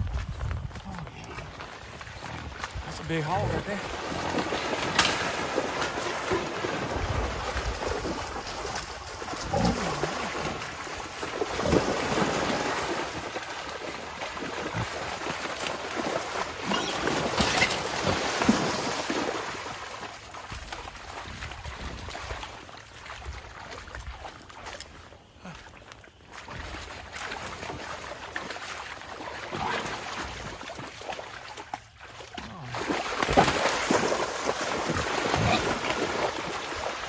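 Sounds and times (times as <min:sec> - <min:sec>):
splashing in mud and water: 0:00.0 - 0:37.0.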